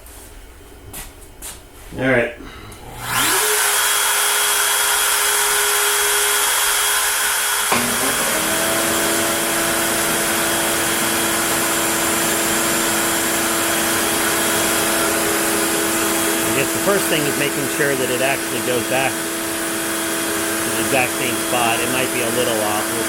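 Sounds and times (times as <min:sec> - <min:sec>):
router spindle whirring: 0:03.0 - 0:23.0.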